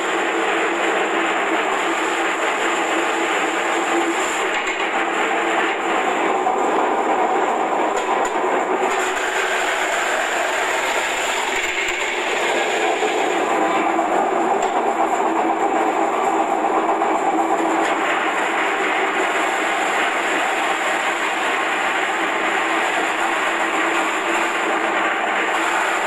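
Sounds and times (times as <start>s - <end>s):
vegetable shredding machine running: 0.0s - 26.0s.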